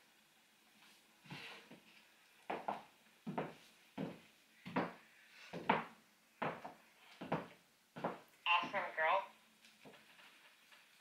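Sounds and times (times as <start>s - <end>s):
footsteps on hard floor: 0.8s - 8.8s, 9.8s - 11.0s.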